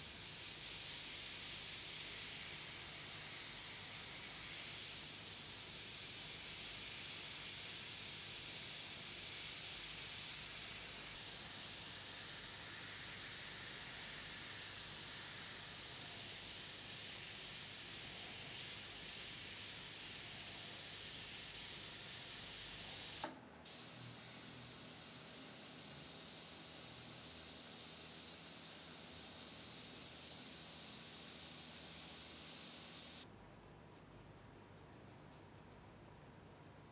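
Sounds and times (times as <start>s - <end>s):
airbrush air hiss: 0.0s - 33.2s.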